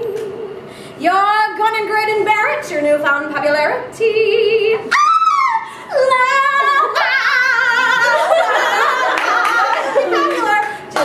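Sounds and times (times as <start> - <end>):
woman singing with vibrato: 0.0 - 8.6, 9.3 - 11.0.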